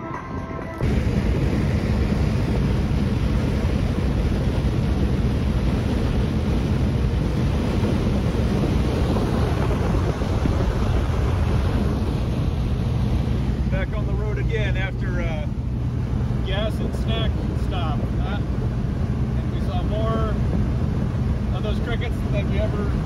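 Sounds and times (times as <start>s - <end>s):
low engine drone: 0.0s - 23.0s
road and wind noise: 0.0s - 23.0s.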